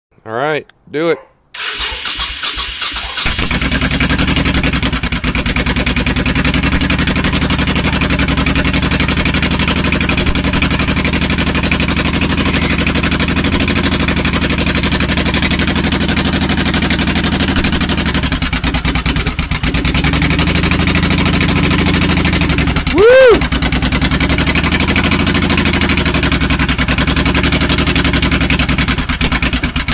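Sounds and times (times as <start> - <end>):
motorcycle engine exhaust beat: 2.7 - 29.9.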